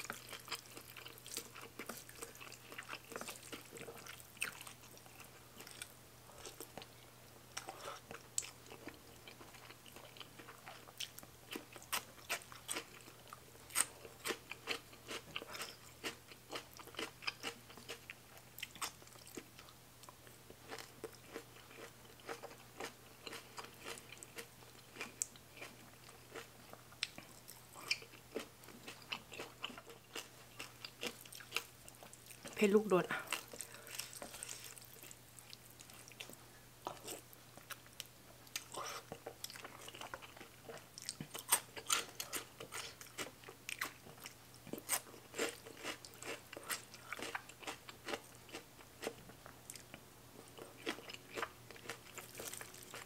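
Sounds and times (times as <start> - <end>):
chewing crunchy food: 0.0 - 53.0.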